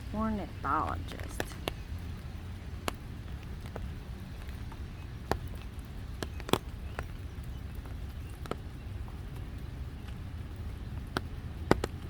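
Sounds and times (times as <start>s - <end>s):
low rumble: 0.0s - 12.0s
raindrops tapping: 0.0s - 12.0s.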